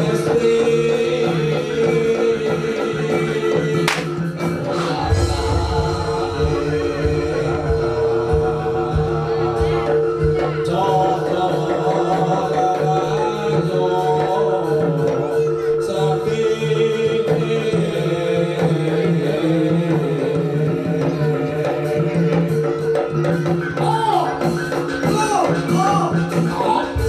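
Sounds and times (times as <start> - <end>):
hand drum rhythms: 0.0 - 27.0
instrumental melody line: 0.0 - 27.0
person singing: 0.0 - 27.0.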